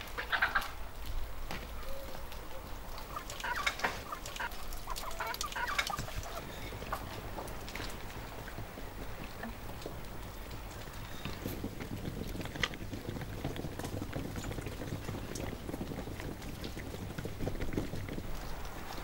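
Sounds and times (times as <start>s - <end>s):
chickens pecking grain: 0.0s - 19.0s.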